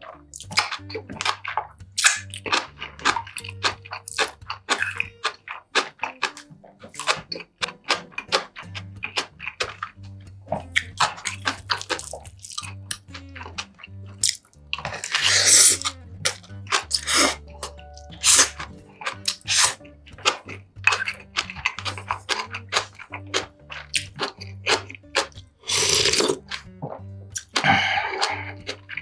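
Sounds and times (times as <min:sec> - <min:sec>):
chewing and crunchy bites: 0:00.0 - 0:29.0
soft background music: 0:00.0 - 0:29.0.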